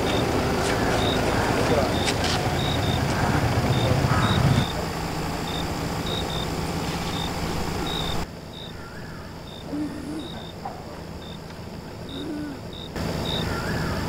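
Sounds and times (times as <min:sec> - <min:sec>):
background hiss: 0:00.0 - 0:14.0
crickets chirping: 0:00.0 - 0:14.0
steady low hum: 0:00.0 - 0:14.0.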